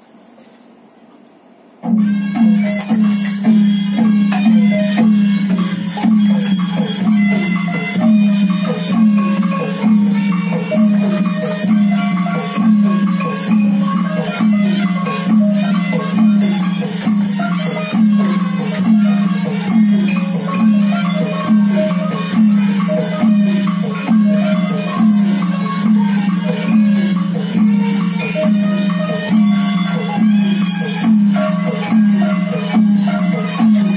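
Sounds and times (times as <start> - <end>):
mallet percussion notes: 1.8 - 33.9.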